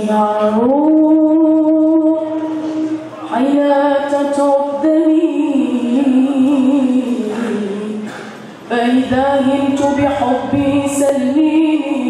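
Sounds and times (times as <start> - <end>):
boy singing unaccompanied: 0.0 - 2.5, 3.3 - 8.1, 8.7 - 12.0.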